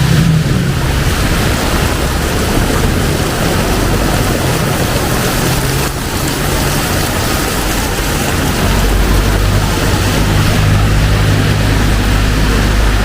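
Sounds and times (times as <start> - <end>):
heavy rain pouring: 0.0 - 13.0
vehicle engine hum: 0.0 - 13.0.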